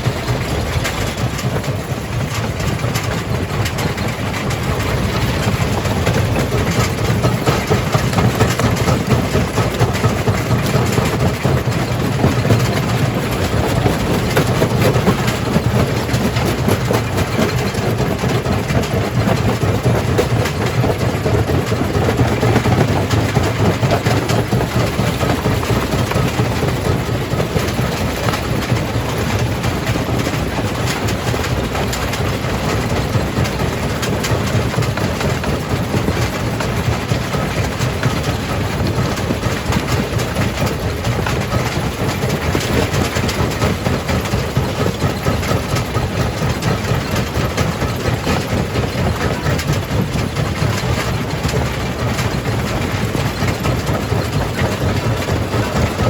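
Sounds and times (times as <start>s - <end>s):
heavy engine rumble: 0.0s - 56.0s
rock crusher clattering: 0.0s - 56.0s.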